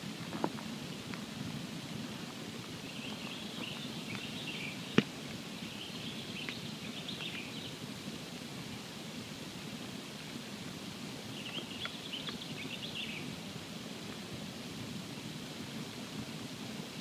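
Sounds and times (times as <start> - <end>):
campfire burning and crackling: 0.0 - 17.0.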